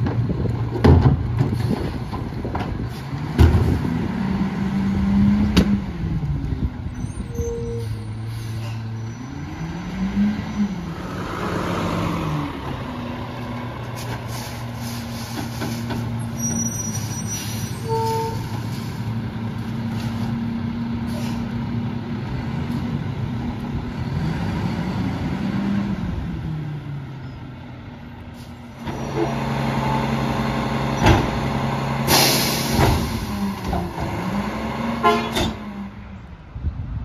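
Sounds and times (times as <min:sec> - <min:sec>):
diesel engine idling and revving: 0:00.0 - 0:37.0.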